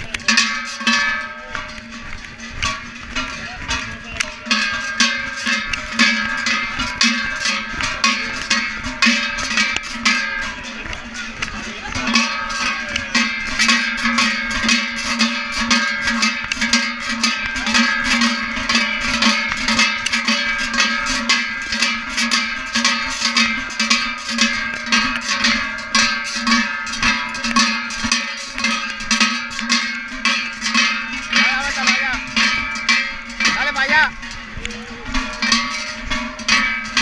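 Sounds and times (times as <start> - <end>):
large cowbells clanging: 0.0 - 37.0.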